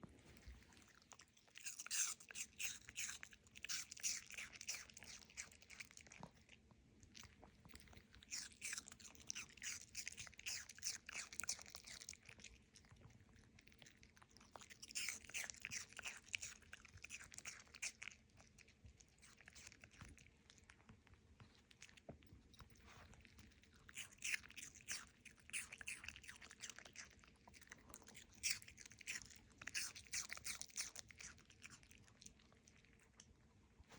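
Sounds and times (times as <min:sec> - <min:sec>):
dog crunching apple: 0:00.3 - 0:33.4.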